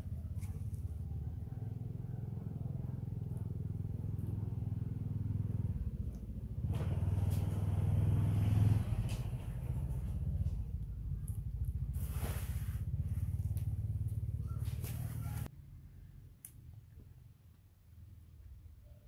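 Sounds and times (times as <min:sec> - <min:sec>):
engine running steadily: 0:00.0 - 0:15.5.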